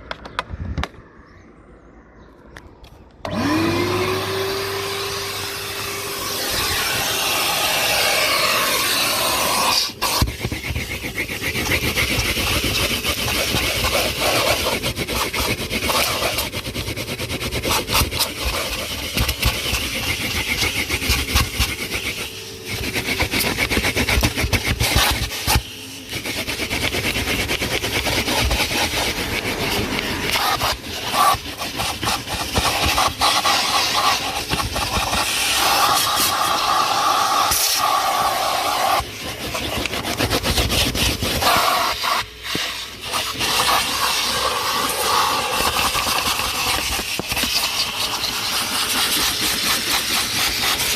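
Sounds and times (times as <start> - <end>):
vacuum cleaner running: 3.2 - 50.9.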